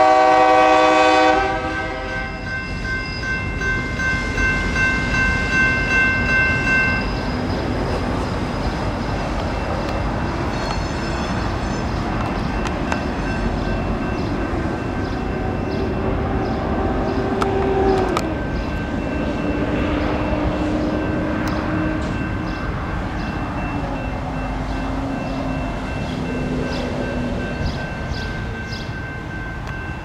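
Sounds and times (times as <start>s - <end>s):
crossing bells dinging: 0.0s - 30.0s
train cars rumbling on track: 0.0s - 30.0s.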